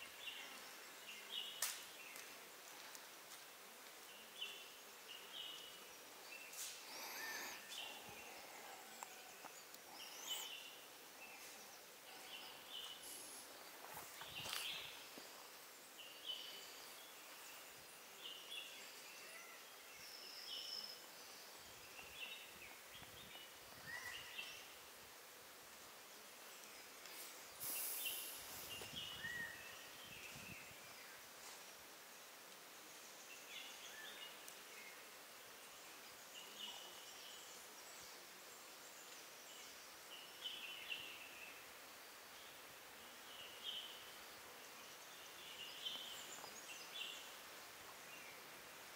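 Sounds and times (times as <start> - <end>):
faint forest ambience: 0.0 - 48.9.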